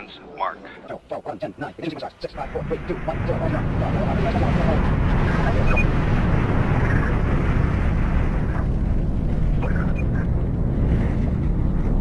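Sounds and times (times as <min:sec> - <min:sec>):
rocket engines rumbling: 0:00.9 - 0:12.0.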